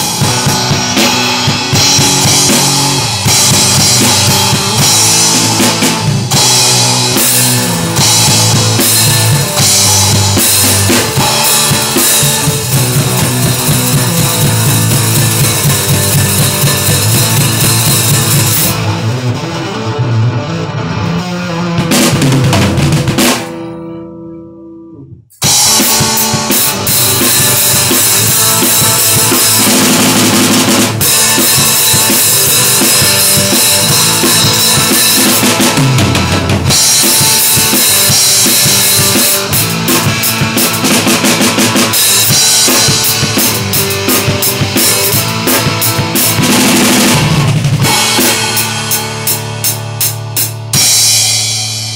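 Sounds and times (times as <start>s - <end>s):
drum hits: 0.0s - 19.0s, 21.8s - 23.7s, 25.3s - 51.9s
rock band playing live: 0.0s - 51.9s.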